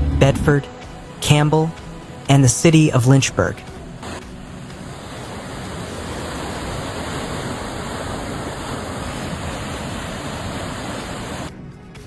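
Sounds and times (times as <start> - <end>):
rushing floodwater roar: 0.9 - 11.5.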